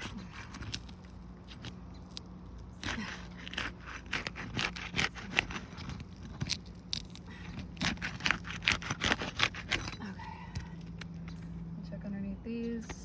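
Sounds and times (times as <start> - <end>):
shingles scraping and crackling: 0.0 - 11.6.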